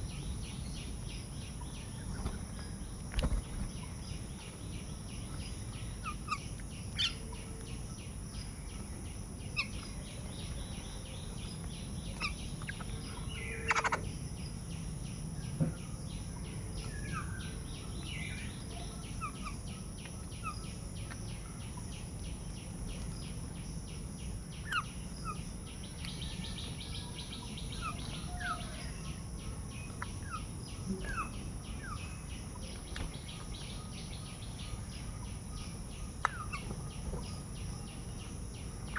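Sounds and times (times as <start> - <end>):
birds chirping: 0.0 - 38.9
outdoor background rumble: 0.0 - 38.9.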